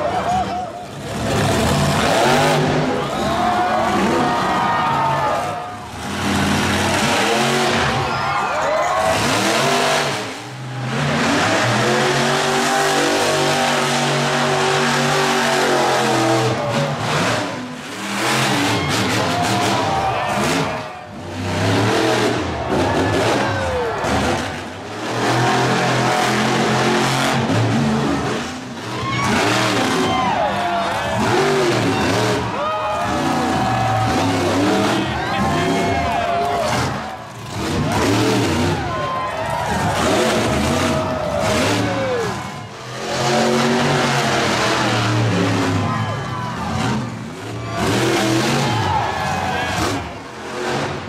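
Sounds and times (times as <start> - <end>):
monster truck engines revving: 0.0 - 51.0.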